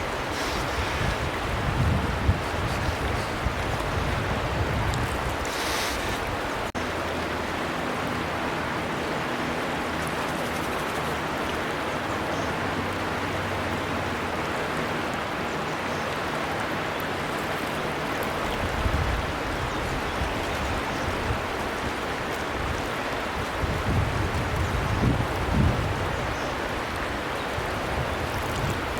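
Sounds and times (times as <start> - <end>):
river water rushing: 0.0 - 28.9.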